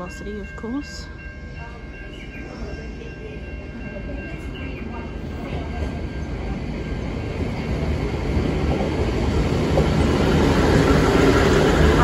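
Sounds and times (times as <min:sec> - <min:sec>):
diesel train rolling in: 0:00.0 - 0:12.0.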